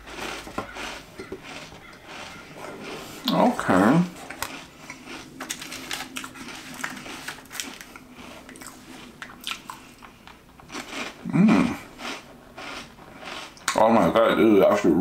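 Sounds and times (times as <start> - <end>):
crunchy wafer cookie being chewed: 0.0 - 14.2.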